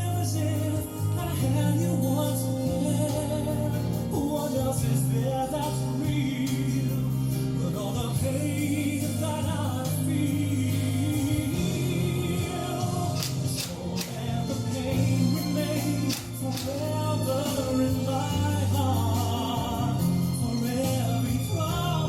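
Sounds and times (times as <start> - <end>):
song with choir backing: 0.0 - 22.0.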